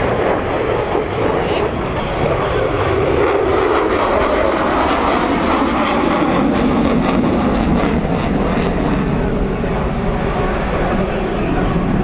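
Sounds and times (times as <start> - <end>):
fighter jet roar: 0.0 - 12.0.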